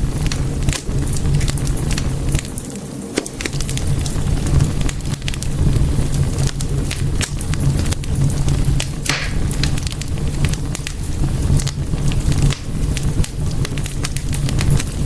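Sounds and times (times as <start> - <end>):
fire hiss: 0.0 - 15.0
fireplace fire crackling: 0.0 - 15.0
low rumble of flames: 0.0 - 15.0.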